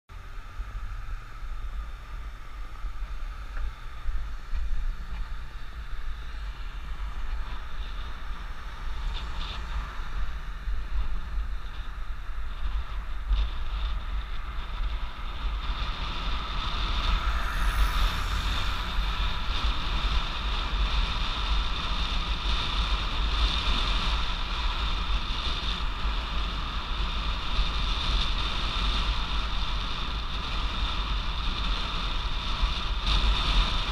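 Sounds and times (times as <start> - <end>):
wind buffeting microphone: 0.7 - 33.9.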